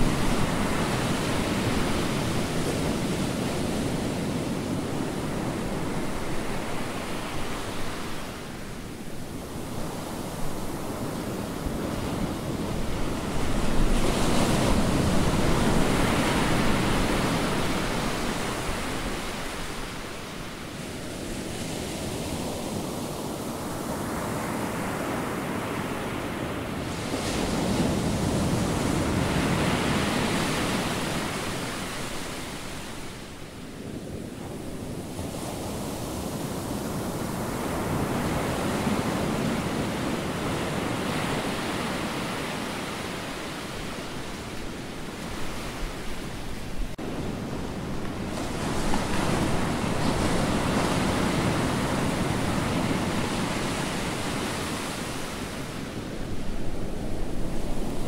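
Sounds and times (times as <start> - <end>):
ocean surf breaking: 0.0 - 58.0
wind: 0.0 - 58.0.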